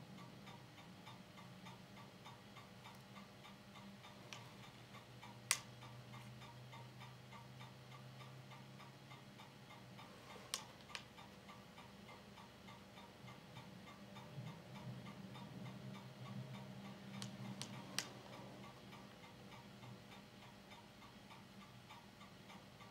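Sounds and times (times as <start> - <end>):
faint steady ticking: 0.0 - 22.9
projector humming: 0.0 - 22.9.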